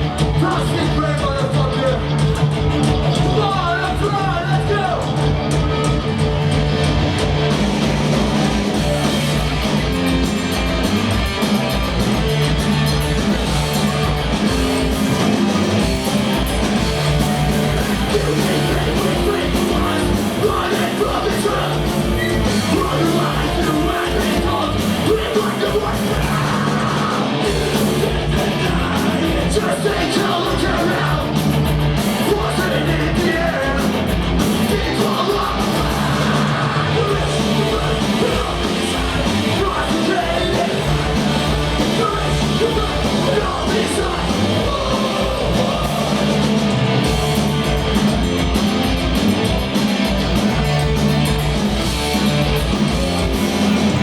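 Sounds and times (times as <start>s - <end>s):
drums: 0.0s - 54.0s
electric guitar: 0.0s - 54.0s
punk rock band playing: 0.0s - 54.0s
yelled vocals: 0.0s - 54.0s.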